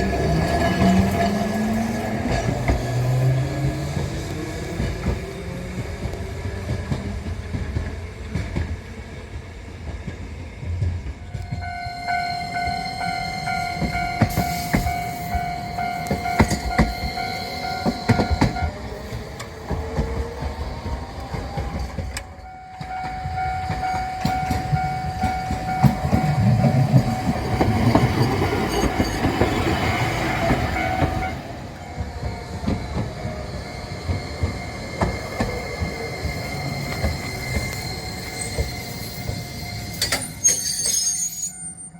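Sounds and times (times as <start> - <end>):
level-crossing warning bells: 0.0 - 4.9, 11.1 - 20.6, 21.2 - 41.9
rail vehicle rumbling past: 0.0 - 41.9.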